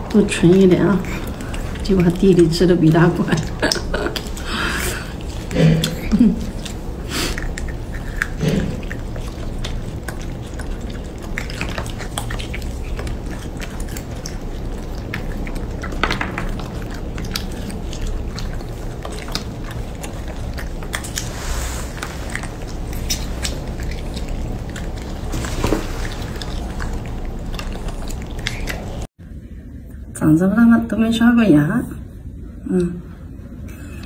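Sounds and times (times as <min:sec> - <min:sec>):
monkeys chewing and crunching: 0:00.0 - 0:29.1
low steady hum: 0:00.0 - 0:34.0.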